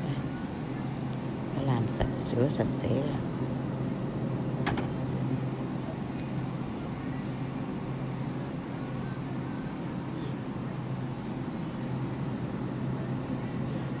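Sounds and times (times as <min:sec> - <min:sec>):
faint indistinct voices: 0:00.0 - 0:04.0, 0:05.2 - 0:14.0
low machine hum: 0:00.0 - 0:14.0.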